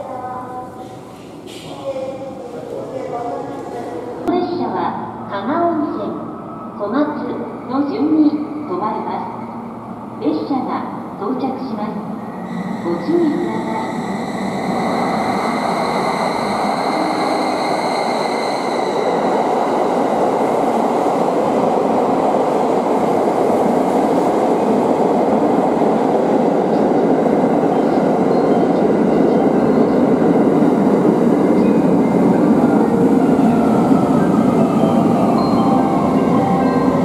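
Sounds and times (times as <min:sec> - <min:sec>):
high train whine: 0:00.0 - 0:37.0.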